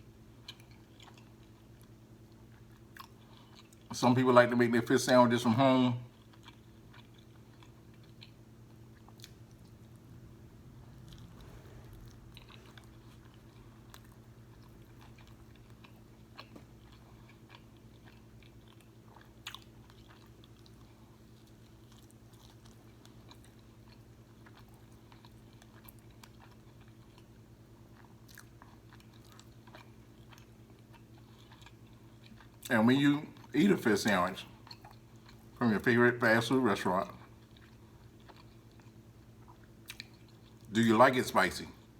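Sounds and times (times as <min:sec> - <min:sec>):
chewing and crunching food: 0:00.0 - 0:41.9
steady low hum: 0:00.0 - 0:41.9.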